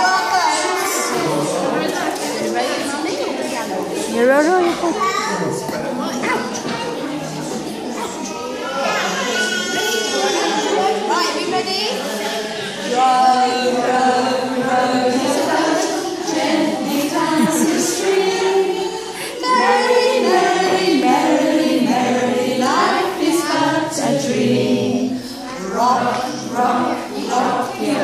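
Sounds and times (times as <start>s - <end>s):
adults and children singing: 0.0s - 28.0s.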